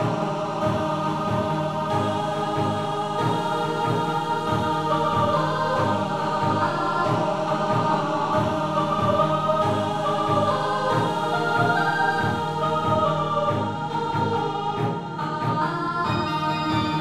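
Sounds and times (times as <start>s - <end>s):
electronic background music: 0.0s - 17.0s.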